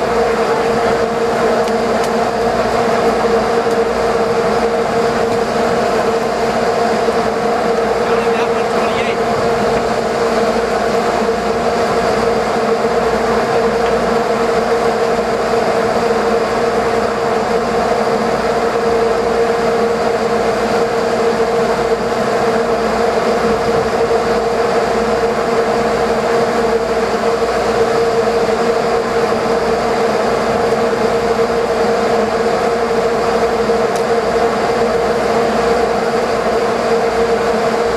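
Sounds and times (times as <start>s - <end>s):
boat diesel engines droning: 0.0s - 37.9s.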